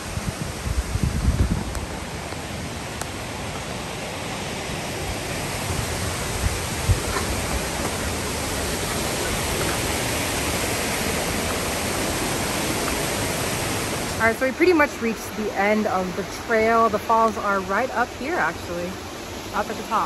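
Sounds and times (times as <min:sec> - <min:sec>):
waterfall rushing water: 0:00.0 - 0:20.0.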